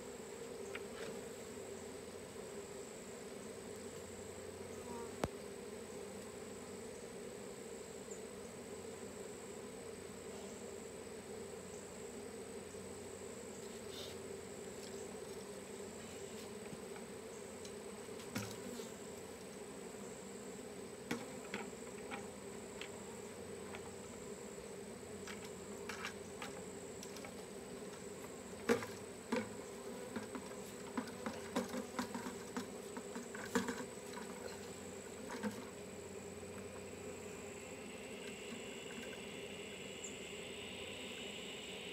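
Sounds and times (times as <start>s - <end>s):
bee swarm buzzing: 0.0s - 41.9s.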